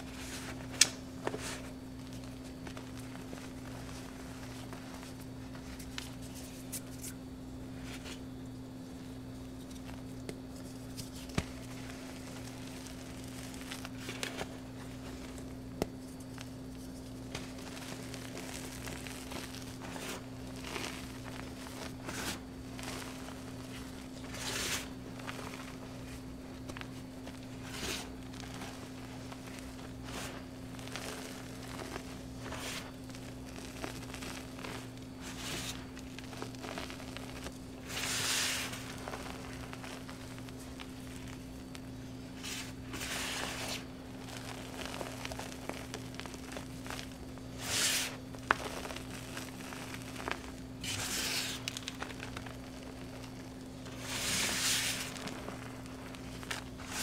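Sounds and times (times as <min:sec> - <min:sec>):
hands crunching loose powder: 0:00.0 - 0:08.4, 0:09.0 - 0:57.0.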